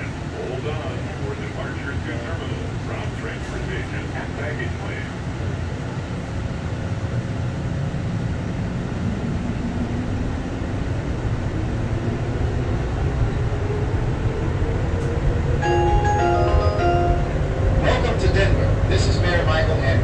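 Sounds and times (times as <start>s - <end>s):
underground train rumbling with whine: 0.0s - 20.0s.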